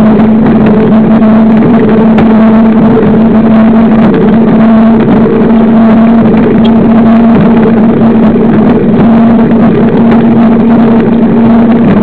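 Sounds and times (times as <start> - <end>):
bike tyres humming on asphalt: 0.0 - 12.0
wind rushing over microphone: 0.0 - 12.0.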